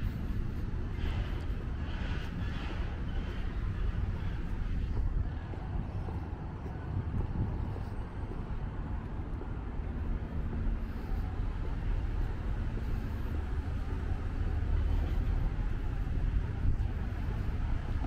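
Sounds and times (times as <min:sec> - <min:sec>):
faint hum: 0:00.0 - 0:18.0
low traffic rumble: 0:00.0 - 0:18.0.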